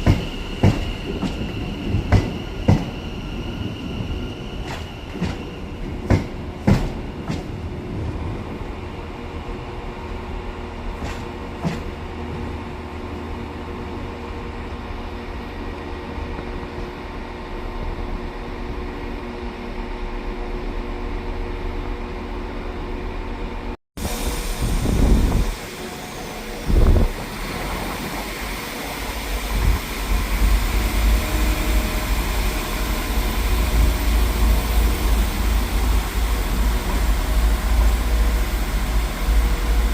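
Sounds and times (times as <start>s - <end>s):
train hum: 0.0s - 39.9s.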